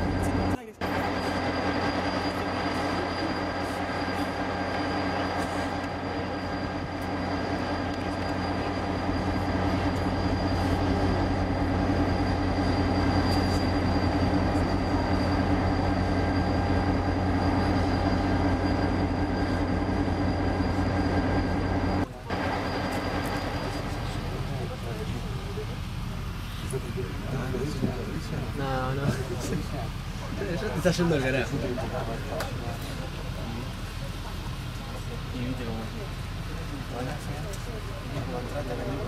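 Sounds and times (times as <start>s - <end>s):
faint high whine: 0.0s - 39.0s
train mechanical hum: 0.0s - 39.0s.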